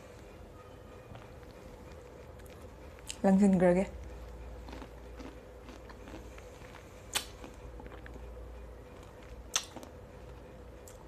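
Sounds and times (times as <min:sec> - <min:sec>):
person chewing fruit: 0:01.0 - 0:03.2, 0:04.0 - 0:11.0.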